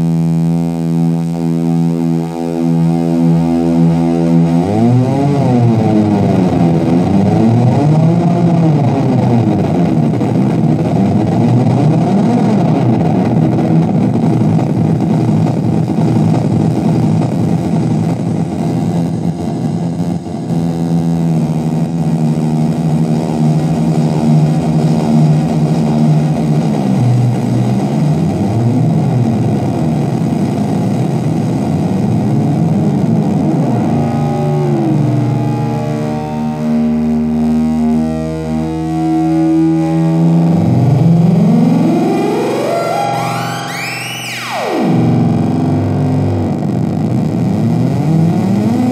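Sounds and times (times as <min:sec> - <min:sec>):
buzzy synthesizer drone sweeping: 0:00.0 - 0:48.9.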